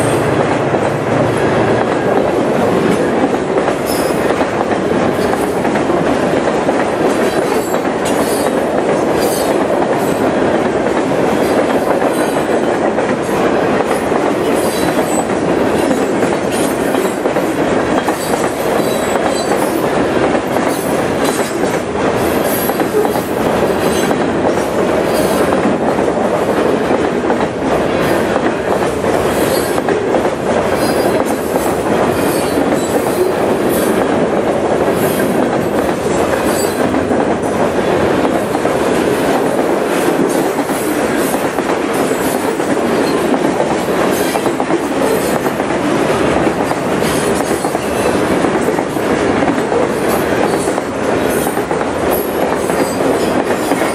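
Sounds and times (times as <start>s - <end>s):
freight train wheels clattering on rails: 0.0s - 53.9s.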